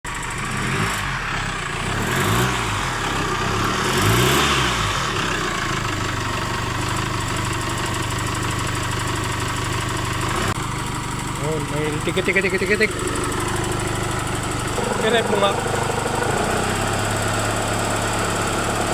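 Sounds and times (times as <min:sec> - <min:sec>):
car engine revving and idling: 0:00.1 - 0:18.9
engine ticking noise: 0:00.1 - 0:18.9.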